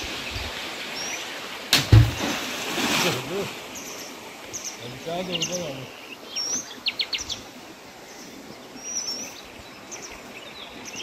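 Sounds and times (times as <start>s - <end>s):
small birds chirping: 0.0s - 1.6s, 3.3s - 11.0s
background hiss: 0.0s - 11.0s.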